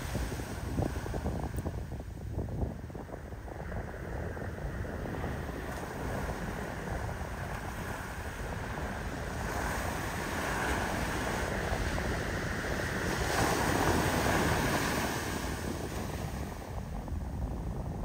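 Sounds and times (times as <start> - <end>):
ocean surf breaking: 0.0 - 18.0
wind on microphone: 0.0 - 18.0.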